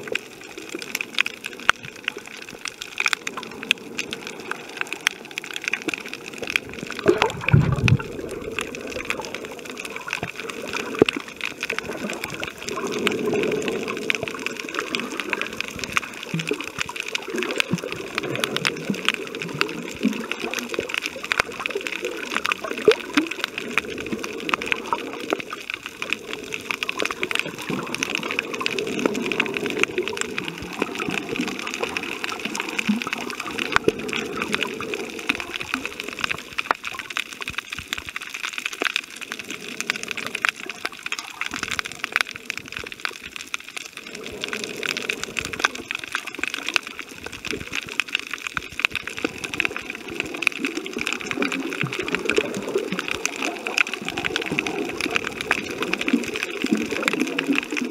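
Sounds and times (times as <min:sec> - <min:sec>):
sharp underwater clicks: 0:00.0 - 0:57.9
underwater rushing water: 0:00.0 - 0:57.9.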